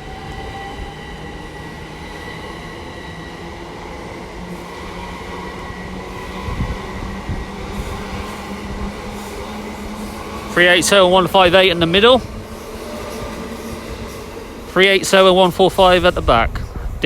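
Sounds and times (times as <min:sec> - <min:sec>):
electric train motor whine: 0:00.0 - 0:17.0.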